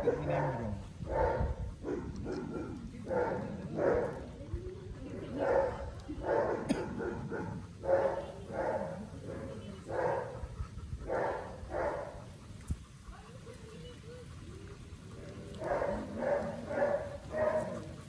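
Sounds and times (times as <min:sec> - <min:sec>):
dogs panting heavily: 0:00.0 - 0:18.0.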